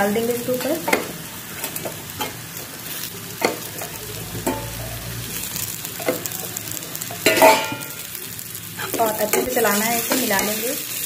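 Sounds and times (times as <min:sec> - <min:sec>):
food sizzling: 0:00.0 - 0:11.0
metal spoon scraping a pan: 0:00.6 - 0:06.4, 0:07.0 - 0:08.1, 0:08.8 - 0:11.0.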